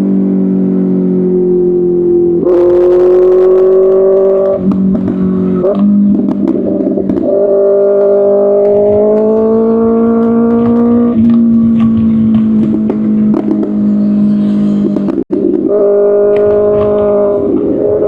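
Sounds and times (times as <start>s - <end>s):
exhaust crackle: 0.0s - 18.0s
motorcycle engine revving: 0.0s - 18.0s.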